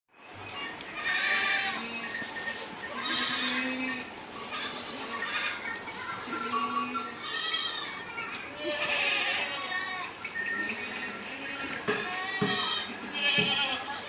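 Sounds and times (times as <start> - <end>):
goats bleating: 1.0 - 2.1, 2.9 - 14.0.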